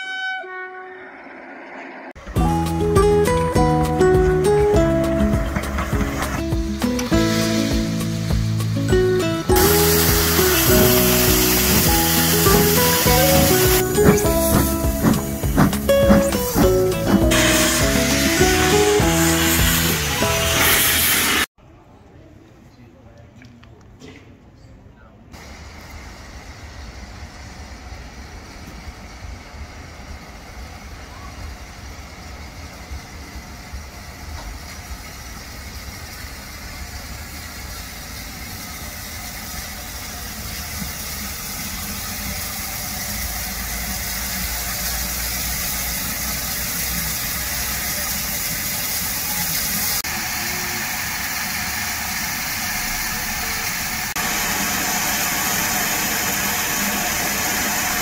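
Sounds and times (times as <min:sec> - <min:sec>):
steam locomotive rumble: 0:00.0 - 0:21.5, 0:25.4 - 0:58.0
steam hissing: 0:01.0 - 0:21.5, 0:25.4 - 0:58.0.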